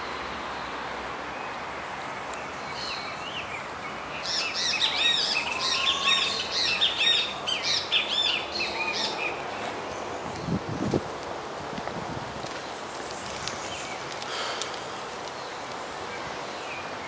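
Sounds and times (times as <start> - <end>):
steady background noise: 0.0 - 17.0
birds chirping: 1.2 - 10.8, 12.5 - 17.0.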